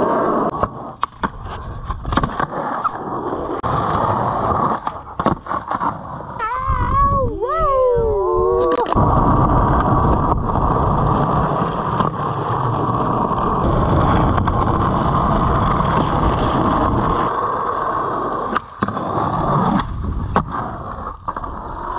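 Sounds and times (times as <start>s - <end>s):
skateboard wheels rolling on asphalt: 0.0s - 7.2s, 8.8s - 21.9s
skateboard clacks: 0.5s - 6.4s, 8.8s - 21.9s.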